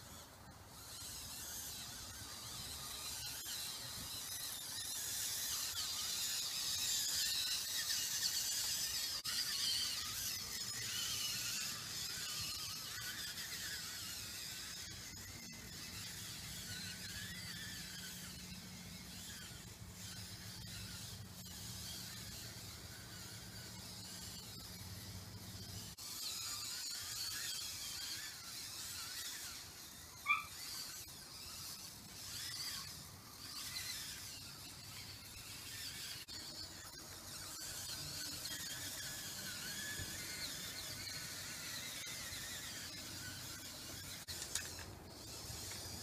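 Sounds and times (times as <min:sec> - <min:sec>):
electric motors whining: 0:00.0 - 0:46.0.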